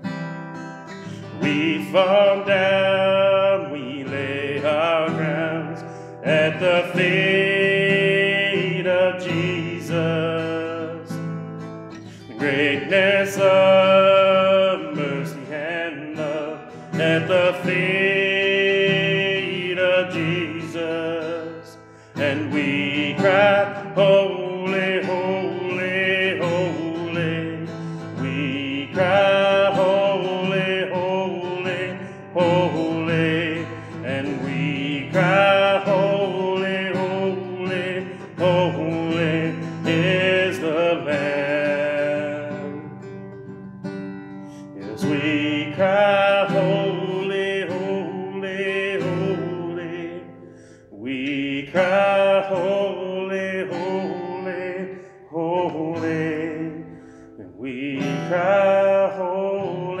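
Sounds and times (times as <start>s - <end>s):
man singing: 0.0s - 43.6s, 44.6s - 60.0s
acoustic guitar strumming: 0.0s - 60.0s.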